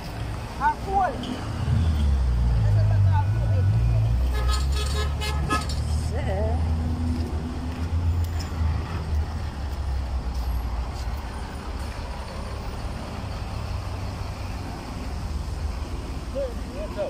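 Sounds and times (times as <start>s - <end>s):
heavy vehicle engine rumbling: 0.0s - 17.0s
street traffic: 0.0s - 17.0s.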